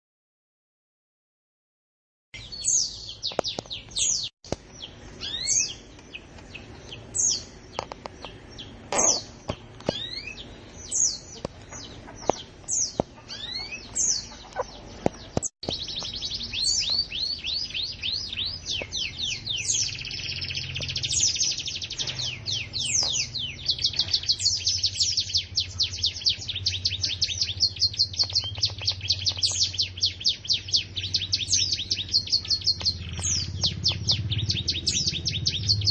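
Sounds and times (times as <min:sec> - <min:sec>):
canary singing: 0:02.4 - 0:35.9.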